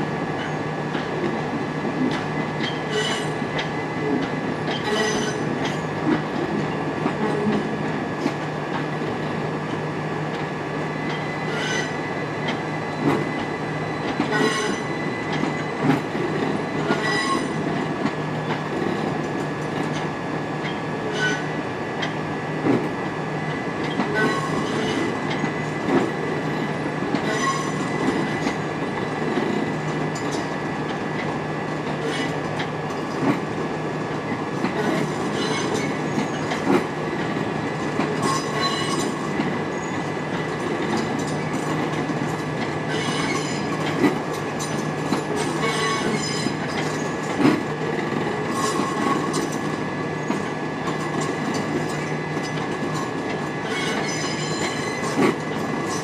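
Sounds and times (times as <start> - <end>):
train wheel squeals: 0.4 - 0.8, 2.0 - 8.4, 11.0 - 18.6, 19.5 - 22.1, 23.4 - 30.6, 31.2 - 33.3, 34.3 - 56.0.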